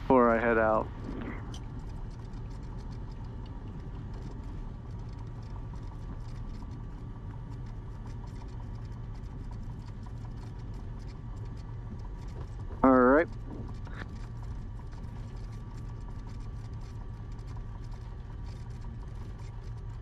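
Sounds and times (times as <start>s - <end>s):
aircraft engine and propeller drone: 0.0s - 20.0s
faint irregular clicks: 0.3s - 20.0s.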